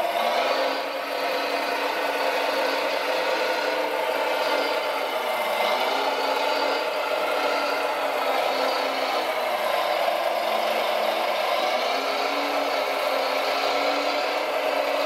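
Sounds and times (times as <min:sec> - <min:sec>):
toy loader motor whirring: 0:00.0 - 0:15.0.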